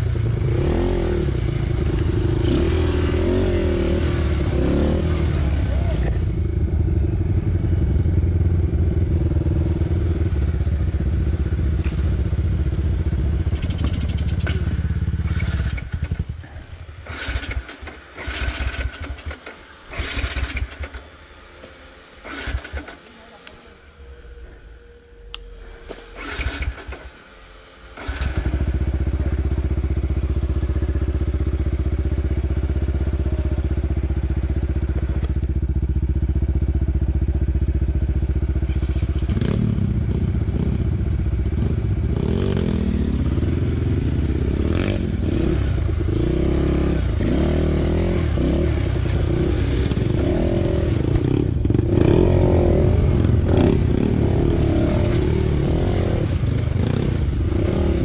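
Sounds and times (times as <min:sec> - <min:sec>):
dirt bike engine idling: 0:00.0 - 0:58.0.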